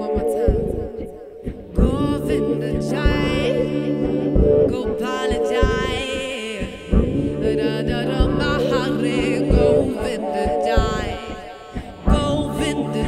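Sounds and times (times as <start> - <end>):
looped vocal harmonies: 0.0 - 13.0
woman singing into microphone: 0.0 - 13.0.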